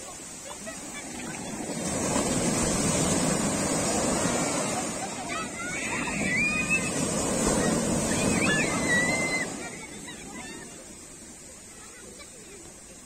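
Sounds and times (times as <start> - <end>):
foam washing up sand: 0.0 - 13.0
sea waves breaking on beach: 0.0 - 13.0.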